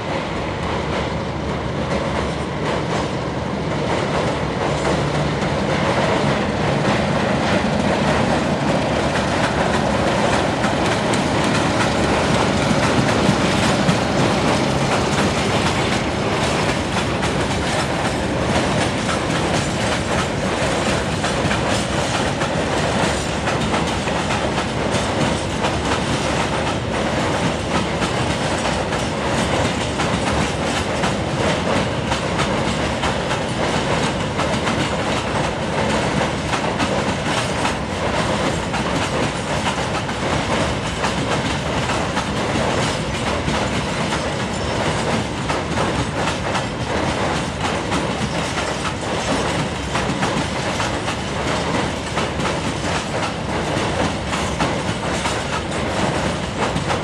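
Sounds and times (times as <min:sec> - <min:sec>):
freight train wheels rattling on rail: 0:00.0 - 0:57.0.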